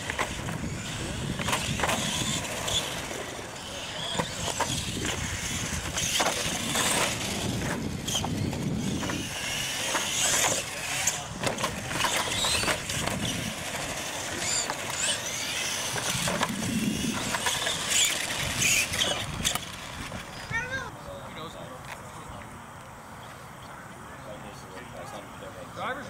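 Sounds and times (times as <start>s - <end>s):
toy truck motors whining: 0.0s - 20.9s.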